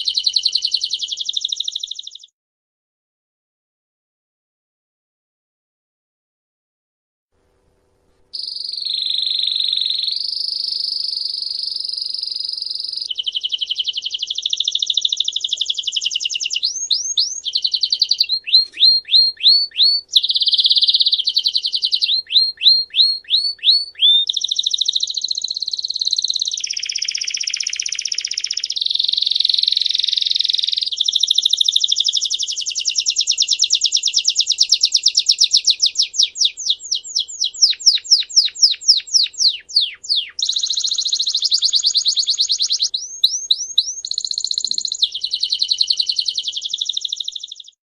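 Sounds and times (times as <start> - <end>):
songbird singing trills: 0.0 - 2.3, 8.4 - 47.8.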